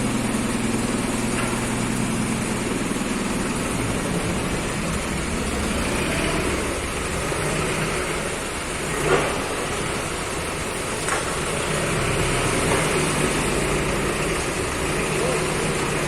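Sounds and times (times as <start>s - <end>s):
forklift engine humming: 0.0s - 16.0s.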